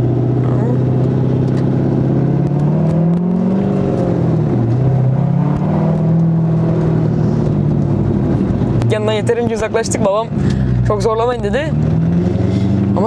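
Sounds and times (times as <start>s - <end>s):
car engine revving from inside: 0.0s - 9.3s, 10.8s - 13.0s.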